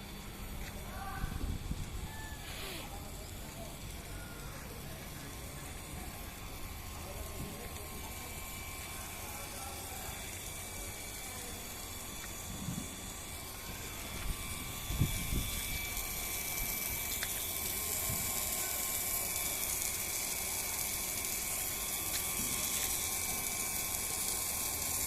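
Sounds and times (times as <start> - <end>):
water spraying from hose: 2.4 - 25.0.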